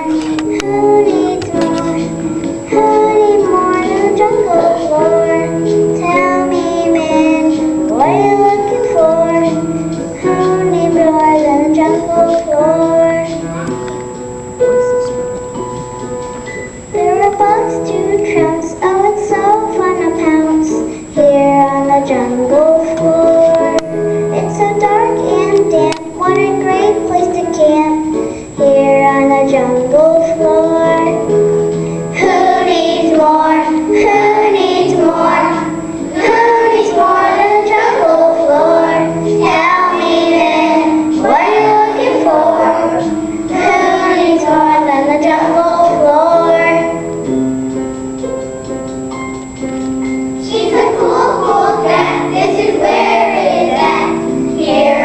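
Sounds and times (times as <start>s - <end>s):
child singing: 0.0s - 9.6s, 10.2s - 13.7s, 17.0s - 31.3s, 32.2s - 47.1s, 50.4s - 55.0s
backing music: 0.0s - 55.0s.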